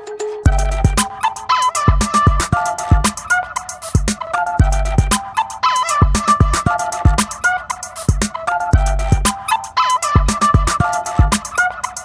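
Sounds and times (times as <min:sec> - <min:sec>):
drum machine beat: 0:00.5 - 0:12.0.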